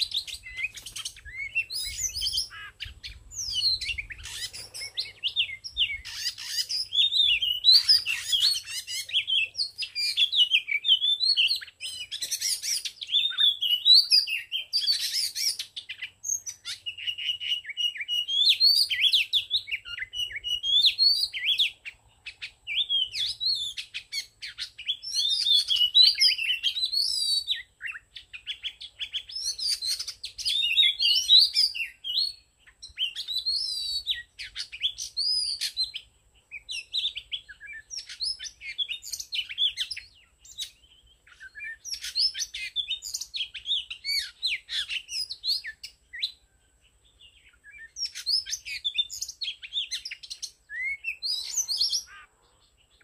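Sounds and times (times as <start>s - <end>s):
bird singing whistled notes: 0.0s - 53.0s.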